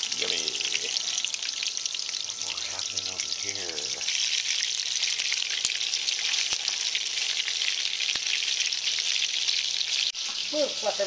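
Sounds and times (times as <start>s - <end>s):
steak frying in hot oil: 0.0s - 11.0s.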